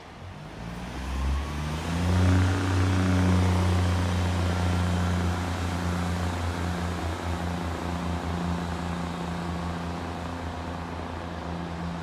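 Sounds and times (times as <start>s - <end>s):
train diesel engine drone: 0.0s - 12.0s.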